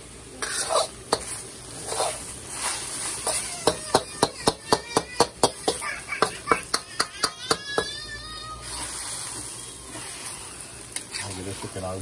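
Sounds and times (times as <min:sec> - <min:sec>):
metal spatula scraping a wok: 0:00.4 - 0:07.4, 0:08.5 - 0:12.0.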